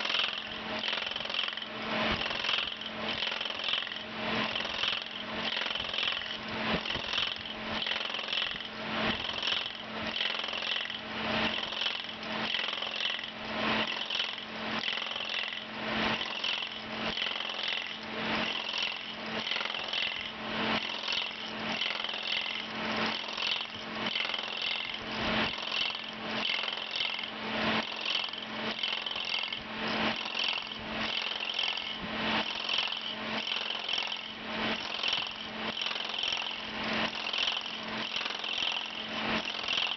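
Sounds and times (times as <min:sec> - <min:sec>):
lathe cutter cutting wood: 0:00.0 - 0:39.9
low machine hum: 0:00.0 - 0:39.9.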